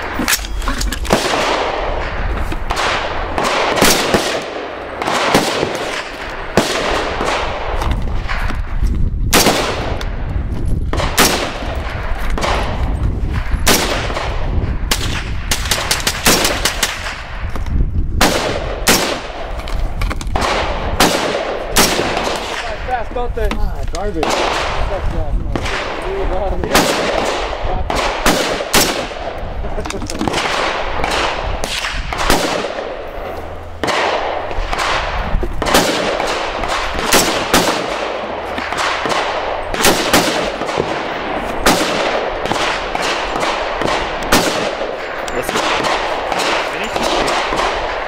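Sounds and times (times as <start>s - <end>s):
gunshots with echo: 0.0s - 8.5s, 9.3s - 10.2s, 10.9s - 17.5s, 18.2s - 19.6s, 20.3s - 23.3s, 24.0s - 48.0s.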